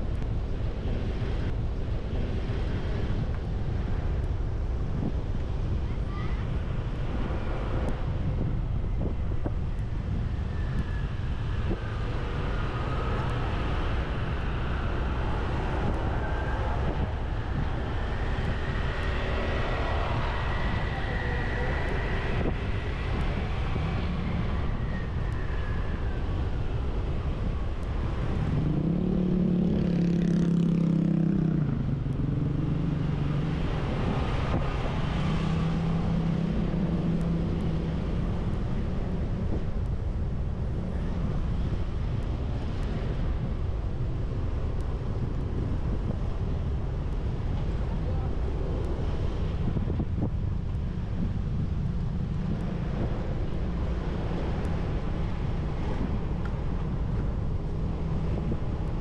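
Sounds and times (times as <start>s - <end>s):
road noise: 0.0s - 59.0s
vehicles passing: 0.0s - 59.0s.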